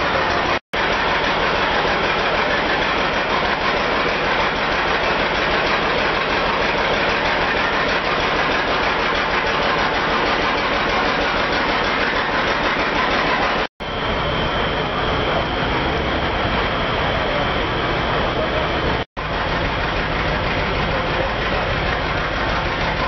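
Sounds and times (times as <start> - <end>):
sawmill machinery running: 0.0 - 23.0.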